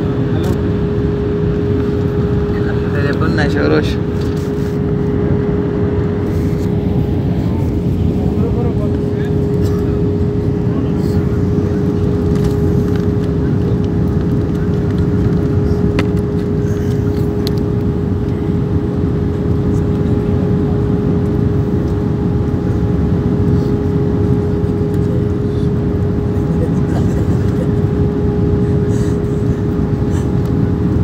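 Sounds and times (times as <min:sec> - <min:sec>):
constant droning tone: 0:00.0 - 0:31.0
jet engines and airflow rushing: 0:00.0 - 0:31.0.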